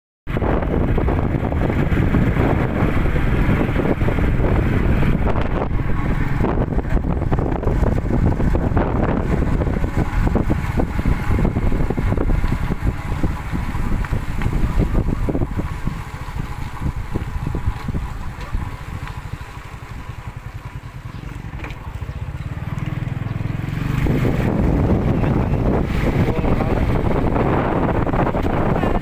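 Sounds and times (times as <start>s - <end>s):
vehicle running noise: 0.3s - 29.0s
wind buffeting microphone: 0.3s - 29.0s.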